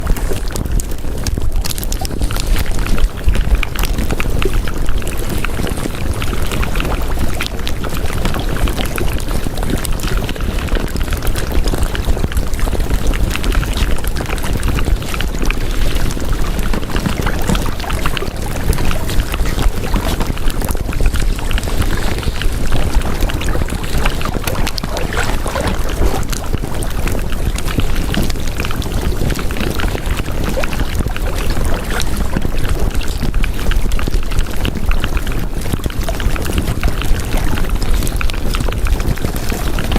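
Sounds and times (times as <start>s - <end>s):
loud rushing noise with crackles: 0.0s - 39.9s.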